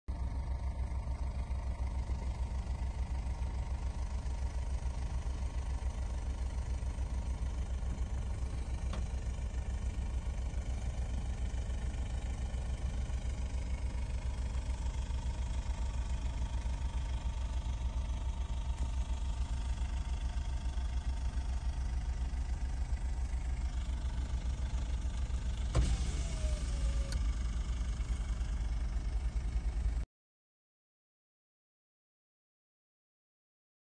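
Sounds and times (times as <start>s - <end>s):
car engine rumble inside cabin: 0.1s - 30.0s.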